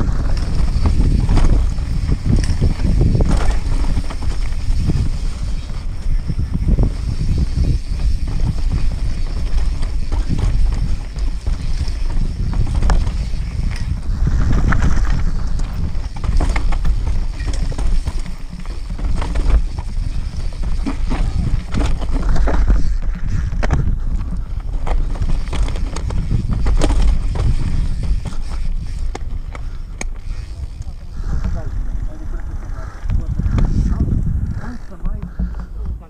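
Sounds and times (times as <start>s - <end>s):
bike rattling over rocks: 0.0s - 36.0s
wind rumble on microphone: 0.0s - 36.0s.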